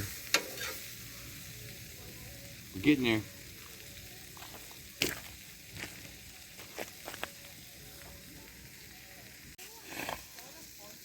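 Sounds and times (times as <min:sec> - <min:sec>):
food sizzling in skillet: 0:00.0 - 0:11.0.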